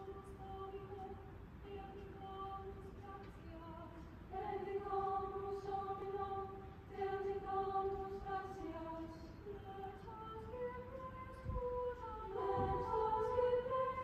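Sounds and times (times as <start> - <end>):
girls choir singing in harmony: 0.0 - 14.0.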